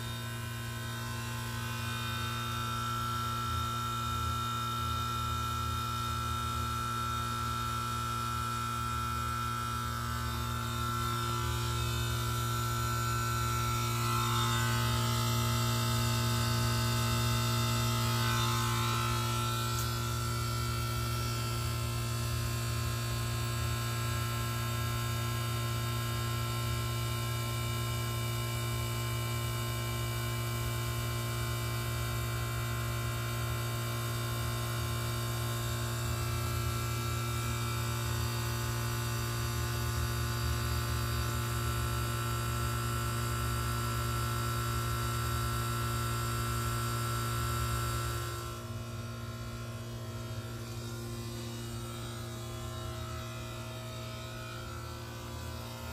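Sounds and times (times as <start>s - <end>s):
compressor humming: 0.0s - 28.6s, 33.7s - 55.9s.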